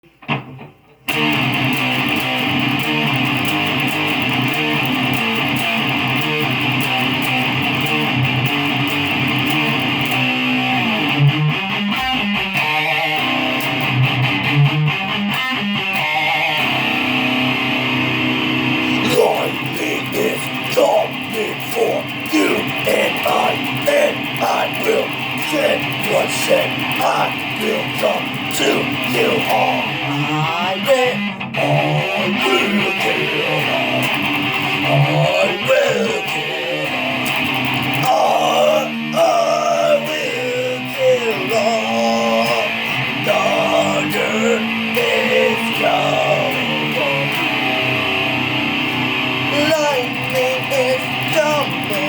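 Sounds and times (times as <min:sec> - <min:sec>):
guitar chords and picked notes: 0:00.0 - 0:52.0.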